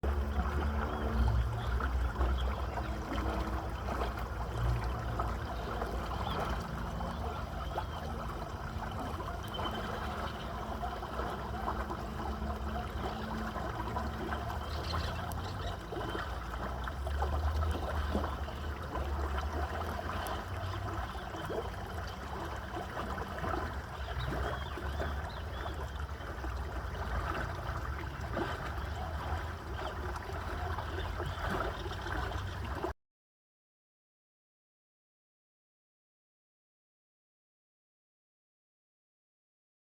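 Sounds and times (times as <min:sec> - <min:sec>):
stream water trickling: 0:00.0 - 0:33.0.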